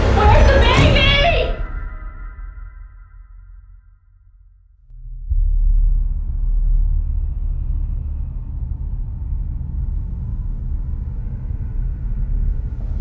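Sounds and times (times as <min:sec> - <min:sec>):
low rumbling suspense drone: 0:00.0 - 0:13.0.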